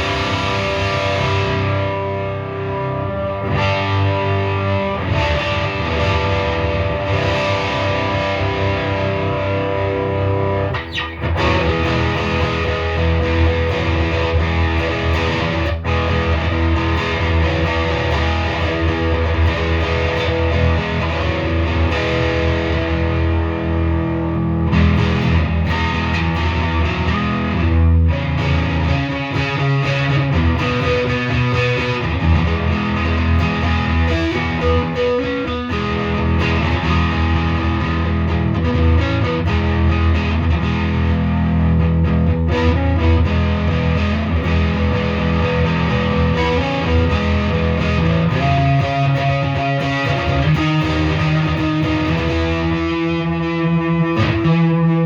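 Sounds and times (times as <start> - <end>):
overdriven electric guitar riffs: 0.0 - 55.0.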